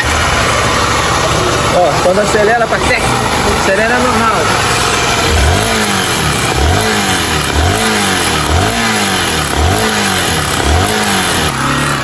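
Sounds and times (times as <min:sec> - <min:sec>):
metal-on-metal engine noise: 0:00.0 - 0:12.0
motorcycle engine revving: 0:00.0 - 0:12.0.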